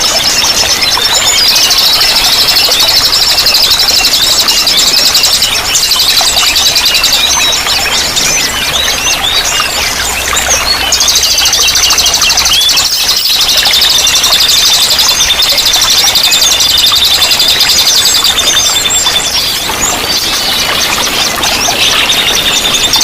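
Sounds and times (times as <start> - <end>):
long rapid bird trill: 0.0 - 23.0
running water rushing: 0.0 - 23.0
songbirds chirping: 0.0 - 23.0.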